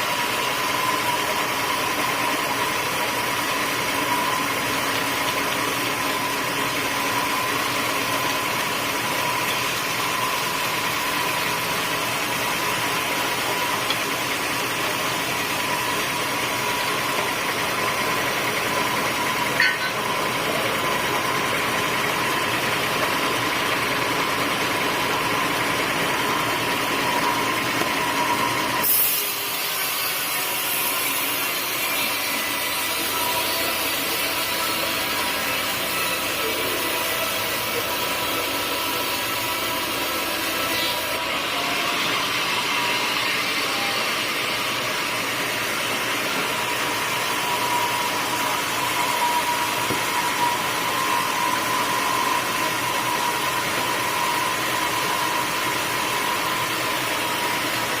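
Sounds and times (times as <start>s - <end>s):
constant machine whine: 0.0s - 58.0s
sawmill machinery drone: 0.0s - 58.0s.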